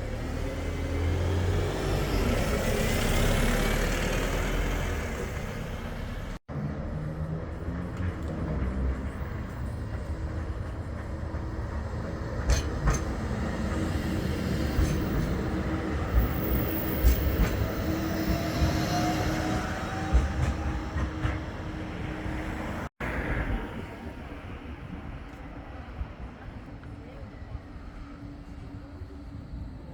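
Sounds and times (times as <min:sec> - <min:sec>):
tram rising whine: 0:00.0 - 0:29.9
tram rumbling on track: 0:00.0 - 0:29.9.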